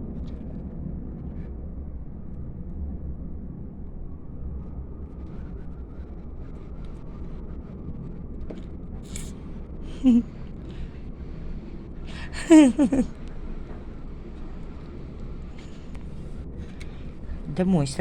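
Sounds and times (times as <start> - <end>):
blizzard wind rumbling: 0.0 - 18.0.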